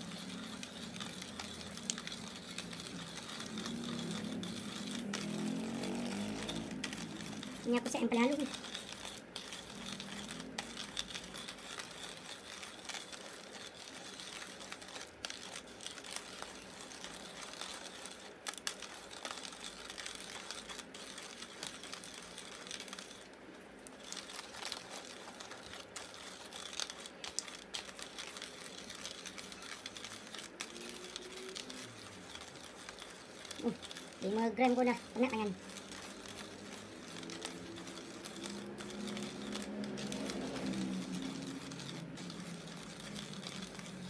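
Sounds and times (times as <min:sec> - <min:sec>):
hand coffee grinder crunching beans: 0:00.0 - 0:44.0.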